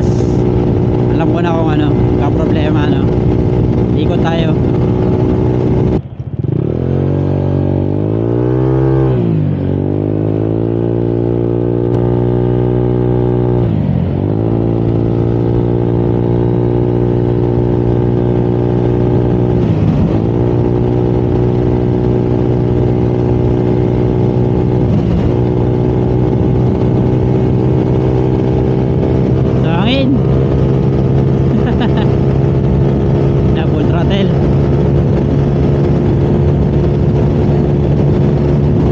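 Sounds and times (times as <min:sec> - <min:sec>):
scooter engine at full throttle: 0:00.0 - 0:38.9.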